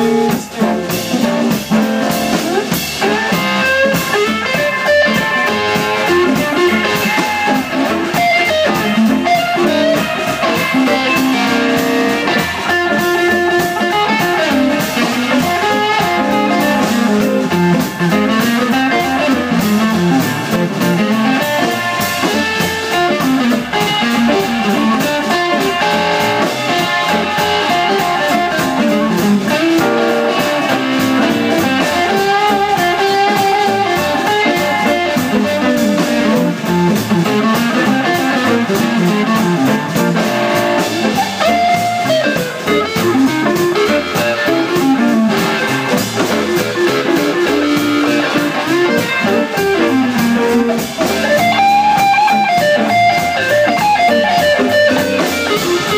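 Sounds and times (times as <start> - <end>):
drum kit: 0.0 - 55.9
electric guitars: 0.0 - 55.9
upright bass: 0.0 - 55.9.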